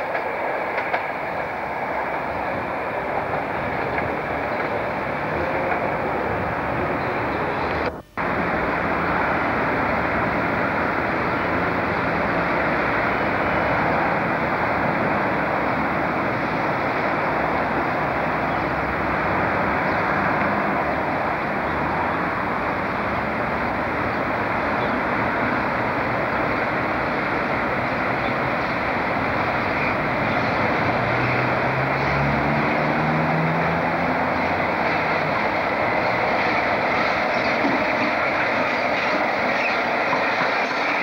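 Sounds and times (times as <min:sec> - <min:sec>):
diesel locomotive drone: 0:00.0 - 0:41.0.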